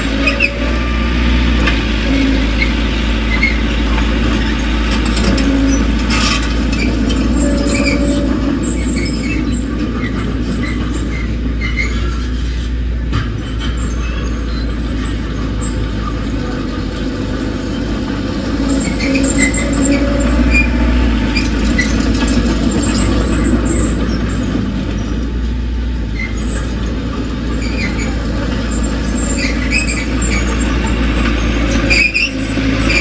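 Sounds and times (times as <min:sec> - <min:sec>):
diesel engine under load: 0:00.0 - 0:33.0
steel tracks squealing: 0:00.0 - 0:33.0.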